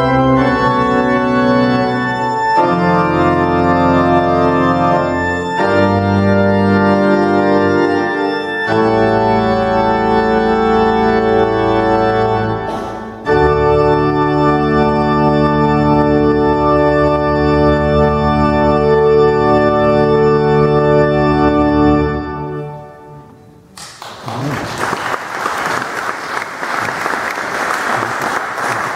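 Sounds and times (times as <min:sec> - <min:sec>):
pipe organ chords: 0:00.0 - 0:23.7.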